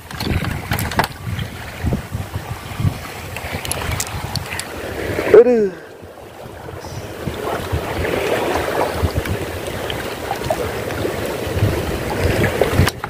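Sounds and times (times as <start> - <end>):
sea water washing: 0.0 - 13.0
wind buffeting microphone: 0.0 - 13.0.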